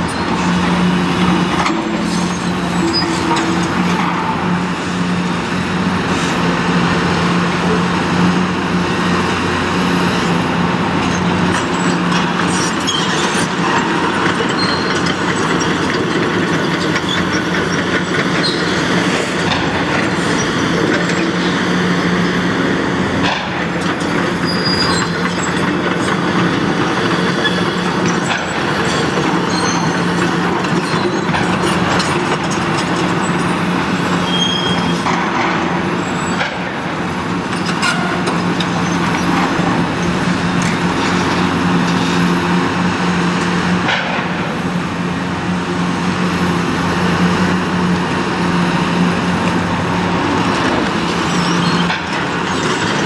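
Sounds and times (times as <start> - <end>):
excavator engine and hydraulics: 0.0 - 53.0.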